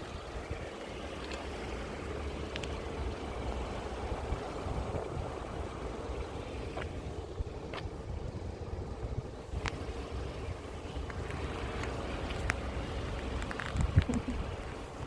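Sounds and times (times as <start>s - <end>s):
vehicle traffic rumble: 0.0s - 15.0s.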